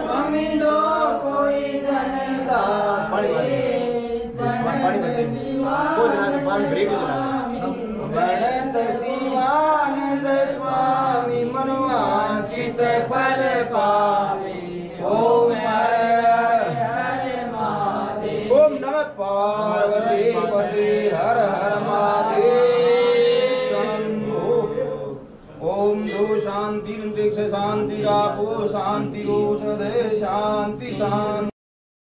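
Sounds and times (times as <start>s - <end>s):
voices chanting devotional song: 0.0s - 31.5s.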